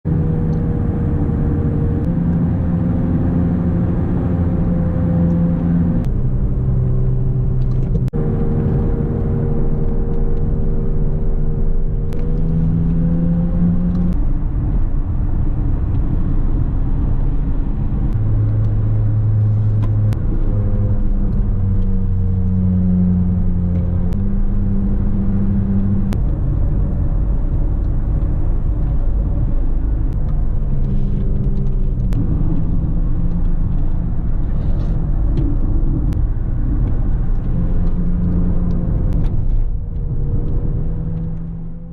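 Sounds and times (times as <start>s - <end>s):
car engine running: 0.0s - 41.9s
tyres rumbling on road: 0.0s - 41.9s.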